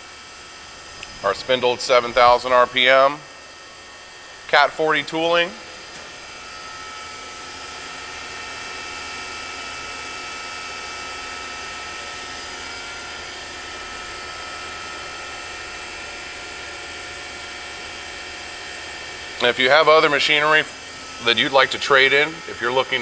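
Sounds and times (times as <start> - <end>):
machine hum: 0.0 - 23.0
machine spindle whine: 0.0 - 23.0.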